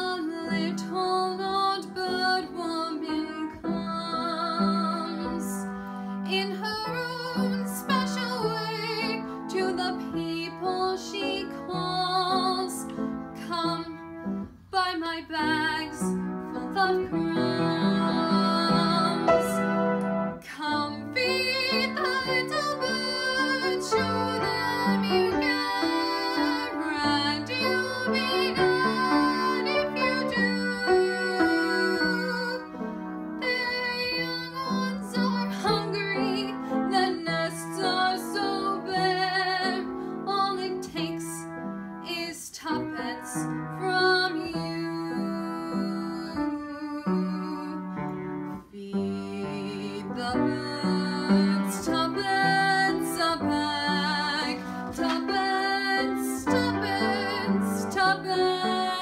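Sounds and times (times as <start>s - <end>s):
girl singing: 0.0s - 5.7s, 6.3s - 19.6s, 20.4s - 32.8s, 33.4s - 41.4s, 42.0s - 47.9s, 48.6s - 59.0s
grand piano accompaniment: 0.0s - 59.0s.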